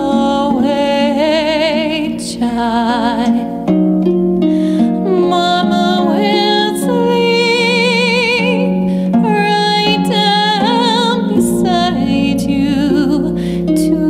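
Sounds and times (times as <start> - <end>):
woman singing a lullaby: 0.0 - 3.7, 4.8 - 14.0
plucked string accompaniment: 0.0 - 14.0.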